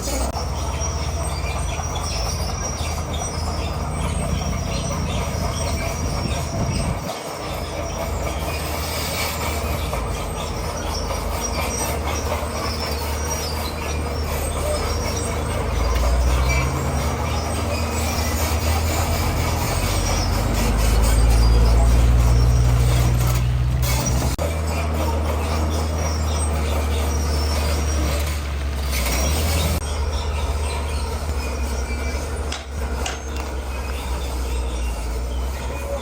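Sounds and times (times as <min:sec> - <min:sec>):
bulldozer diesel engine running: 0:00.0 - 0:36.0
steel tracks squealing and clattering: 0:00.0 - 0:36.0.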